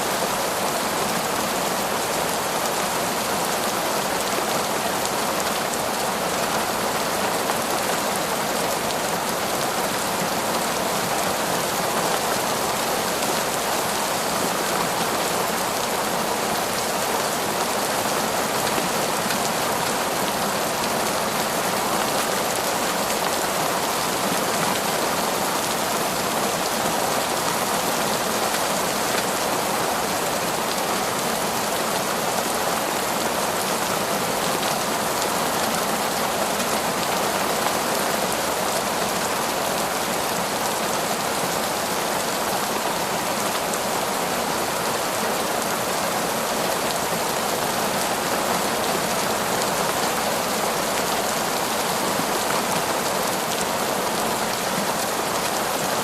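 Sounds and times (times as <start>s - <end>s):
heavy rain on trees: 0.0s - 56.0s.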